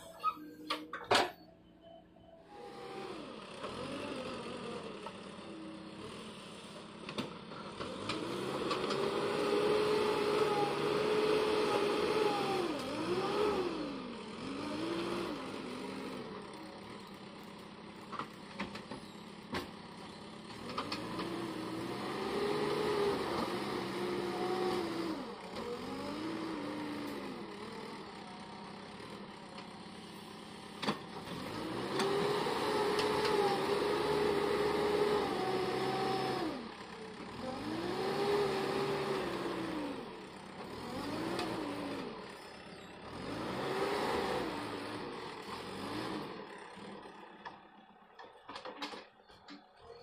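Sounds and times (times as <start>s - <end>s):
backhoe diesel engine labouring: 0.0s - 50.0s.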